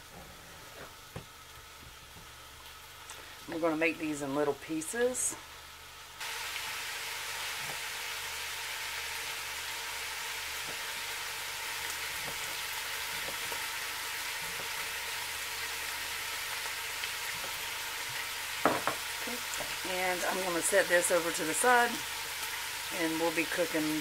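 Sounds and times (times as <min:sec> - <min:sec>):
bacon sizzling: 0:00.0 - 0:24.0.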